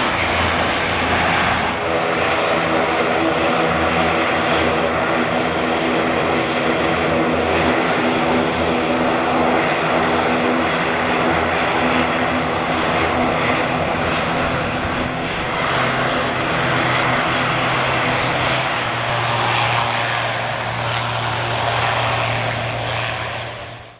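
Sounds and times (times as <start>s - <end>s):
aircraft engine hiss: 0.0s - 23.9s
propeller drone: 0.0s - 23.9s.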